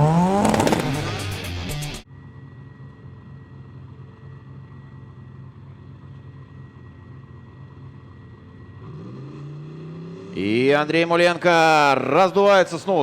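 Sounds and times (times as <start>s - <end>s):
car engine idling: 0.6s - 13.0s.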